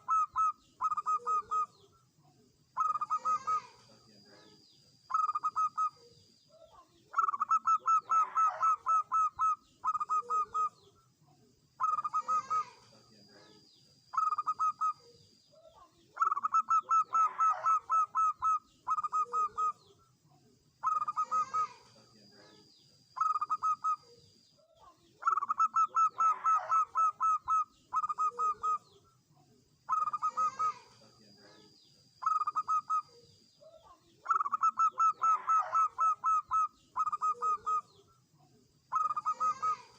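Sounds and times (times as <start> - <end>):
dove cooing: 0.0 - 1.9, 2.8 - 11.0, 11.8 - 20.0, 20.8 - 29.0, 29.9 - 38.0, 38.9 - 39.9
faint high chirps: 0.0 - 39.9.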